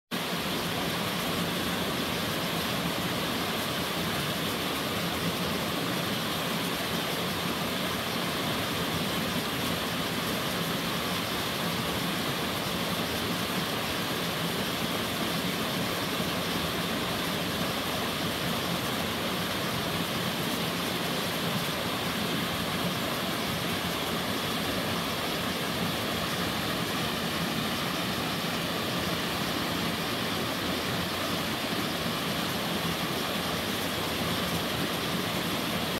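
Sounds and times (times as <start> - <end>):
waterfall rushing over rock: 0.1 - 35.9.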